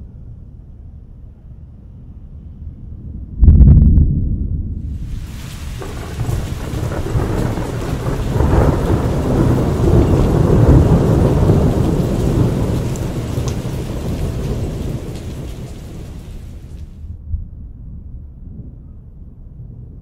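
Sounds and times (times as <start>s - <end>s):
rolling thunder rumble: 2.9s - 20.0s.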